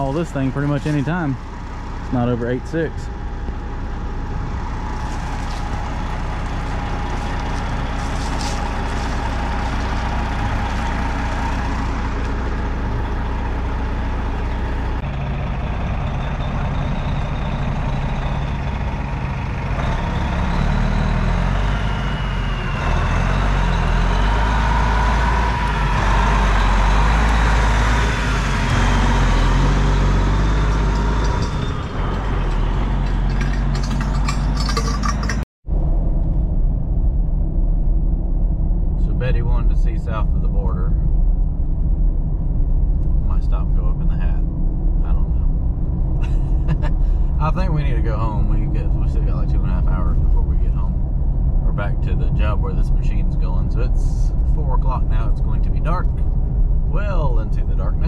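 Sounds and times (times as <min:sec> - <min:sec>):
diesel truck engine rumbling: 0:00.0 - 0:58.0.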